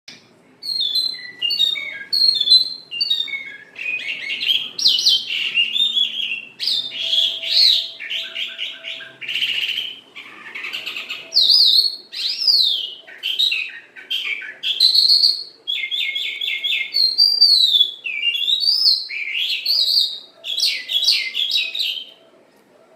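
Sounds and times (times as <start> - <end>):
songbird singing: 0.1 - 22.3.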